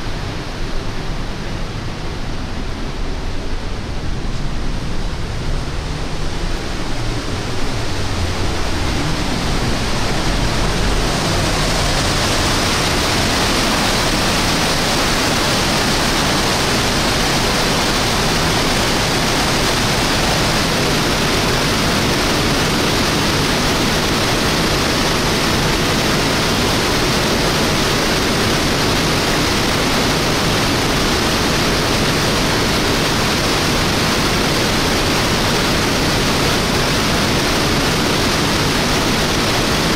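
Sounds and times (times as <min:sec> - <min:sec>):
waterfall crashing: 0:00.0 - 0:39.9.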